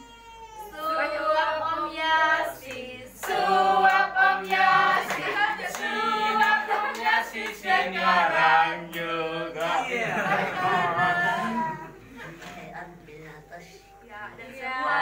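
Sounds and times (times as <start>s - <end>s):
group singing in unison: 0.7s - 12.6s, 14.0s - 15.0s.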